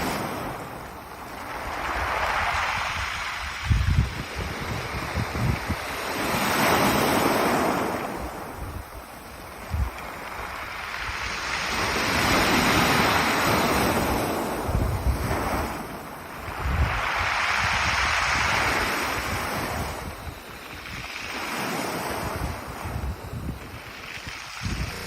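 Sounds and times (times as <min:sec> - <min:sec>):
sea waves over pebbles: 0:00.0 - 0:25.0
wind buffeting microphone: 0:00.0 - 0:25.0.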